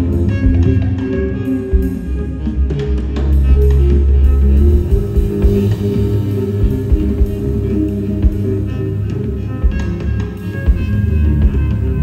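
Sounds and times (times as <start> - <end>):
drum kit: 0.0 - 12.0
electric guitar: 0.0 - 12.0
heavy bass line: 0.0 - 12.0.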